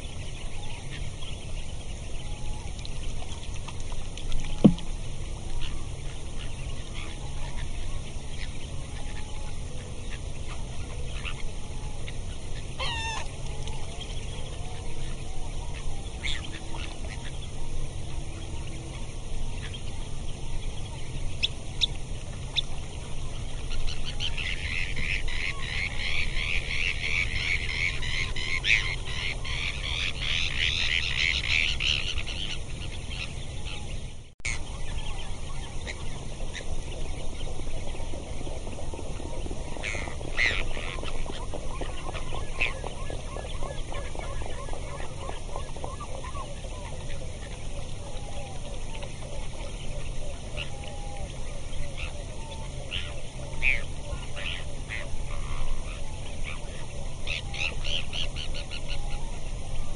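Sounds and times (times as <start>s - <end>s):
birds chattering: 0.0s - 59.9s.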